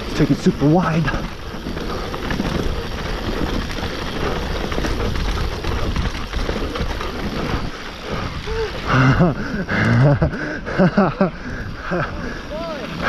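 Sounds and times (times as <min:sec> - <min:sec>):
wind rush over microphone: 0:00.0 - 0:10.5
bike rattling: 0:00.0 - 0:13.0
tyres on dirt: 0:00.0 - 0:13.0.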